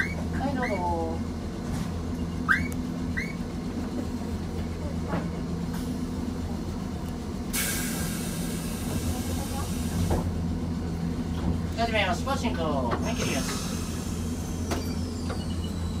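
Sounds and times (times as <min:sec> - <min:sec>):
tram equipment humming: 0:00.0 - 0:16.0.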